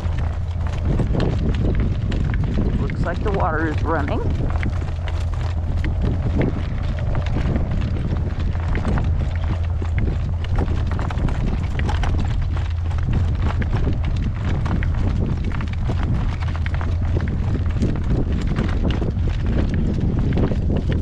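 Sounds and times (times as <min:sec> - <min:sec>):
horse hooves clopping on road: 0:00.0 - 0:21.0
wind rumble on microphone: 0:00.0 - 0:21.0.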